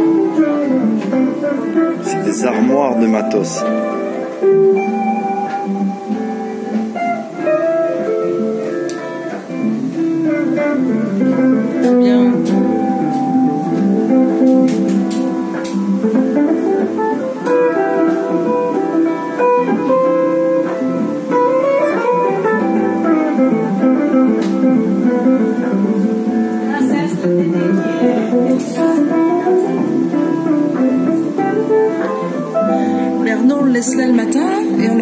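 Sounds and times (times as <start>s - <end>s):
plucked guitar: 0.0s - 35.0s.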